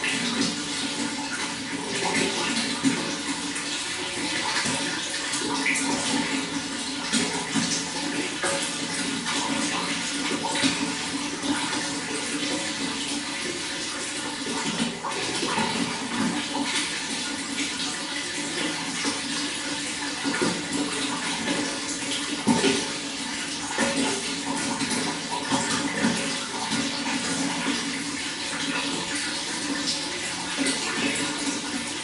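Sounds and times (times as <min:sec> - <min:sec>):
running water rushing: 0:00.0 - 0:32.0.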